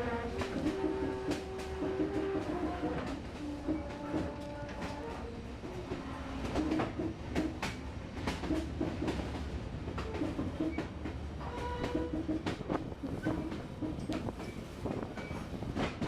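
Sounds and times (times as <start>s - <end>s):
train rumbling along track: 0.0s - 16.0s
wheels clacking on rails: 0.0s - 16.0s.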